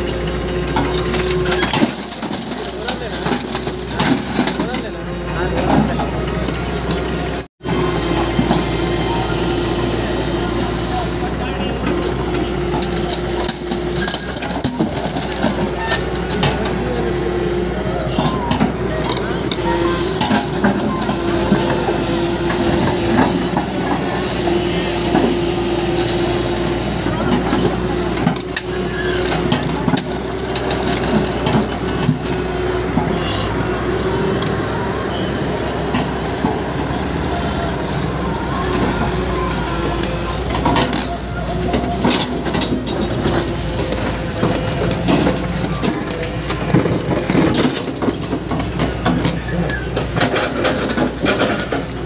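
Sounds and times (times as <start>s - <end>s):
excavator diesel engine whining: 0.0s - 52.0s
trailer rattling and clanking: 0.0s - 52.0s.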